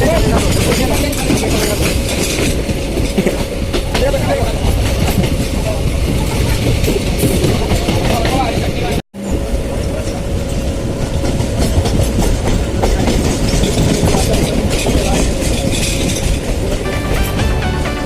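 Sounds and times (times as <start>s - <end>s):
train wheels clattering over rail joints: 0.0s - 8.9s, 10.0s - 16.8s.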